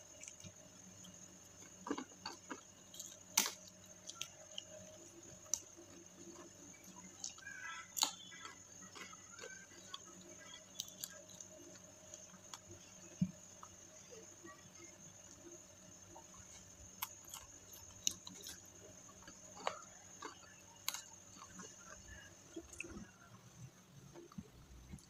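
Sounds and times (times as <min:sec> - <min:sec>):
chewing crispy food: 0:00.0 - 0:23.4
faint steady hum: 0:00.0 - 0:25.0.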